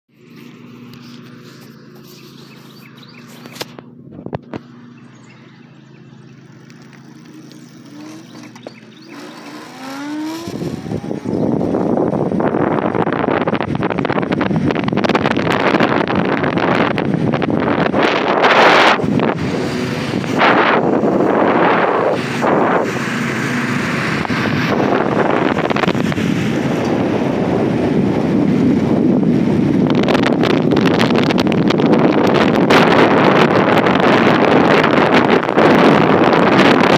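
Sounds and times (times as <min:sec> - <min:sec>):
electric motor humming and whining: 0:00.2 - 0:31.9
wind rush over microphone: 0:00.3 - 0:05.6, 0:06.3 - 0:36.9.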